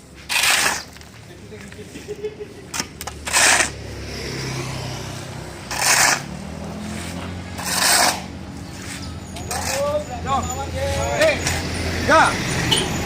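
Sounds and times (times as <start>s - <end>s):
harsh scraping on concrete: 0.0s - 12.3s.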